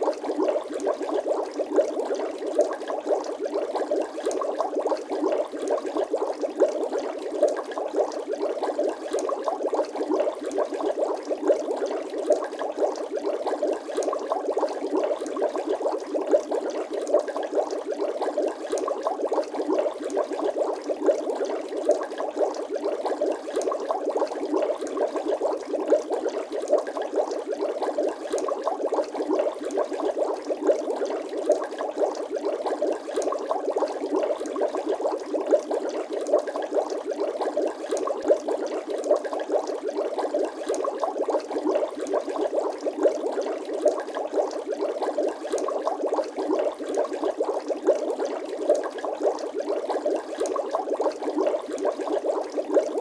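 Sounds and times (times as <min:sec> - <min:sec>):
water bubbling: 0:00.0 - 0:53.0.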